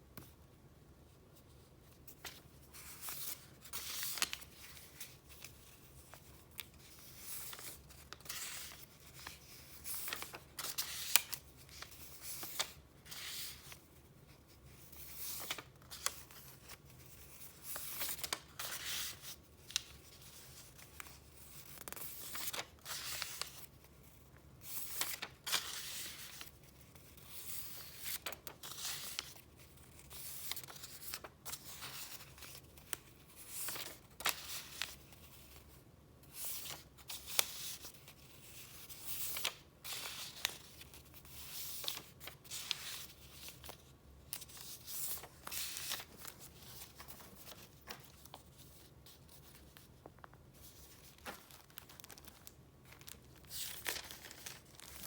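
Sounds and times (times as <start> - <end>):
paper rustling and crinkling: 1.4 - 55.0.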